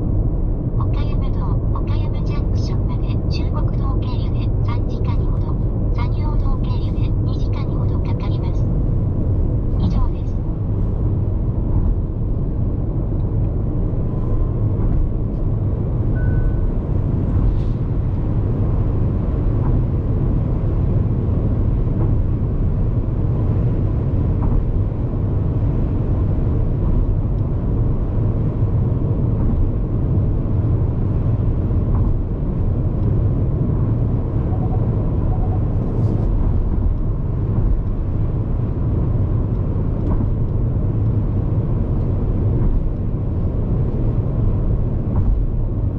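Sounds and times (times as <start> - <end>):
low tyre rumble: 0.0 - 45.9.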